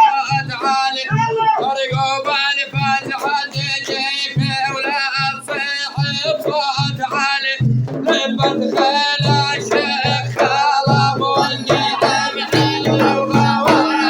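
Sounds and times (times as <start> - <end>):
man singing: 0.0 - 14.0
music with low drum beat: 0.0 - 14.0.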